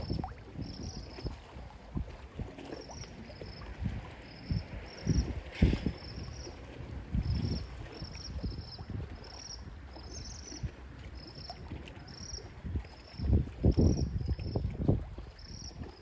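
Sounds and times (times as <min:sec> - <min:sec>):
low rumble of wind or water: 0:00.0 - 0:16.0.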